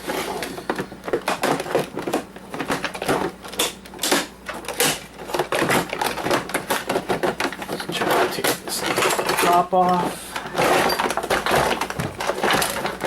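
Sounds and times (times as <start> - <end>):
plastic parts clicking and rattling: 0.1 - 13.0.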